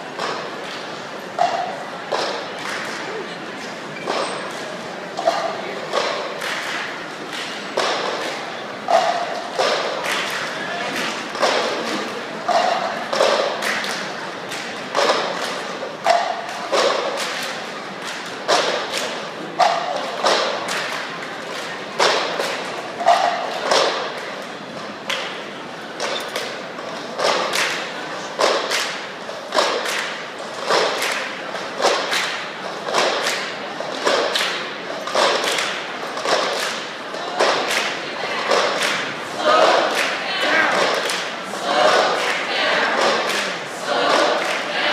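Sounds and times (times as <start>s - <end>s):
crowd murmur: 0.0s - 44.9s
percussion thuds and slaps: 1.4s - 3.0s, 4.0s - 25.4s, 26.0s - 44.8s.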